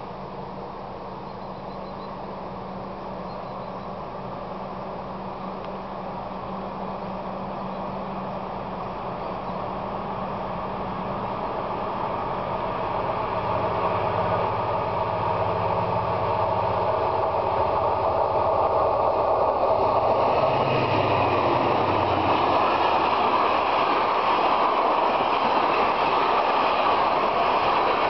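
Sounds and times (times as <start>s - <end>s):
locomotive engine hum: 0.0s - 28.0s
train wheels rolling on rails: 0.0s - 28.0s.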